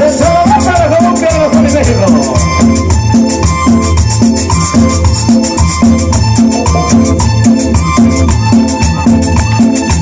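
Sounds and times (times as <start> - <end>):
live latin dance band: 0.0 - 10.0.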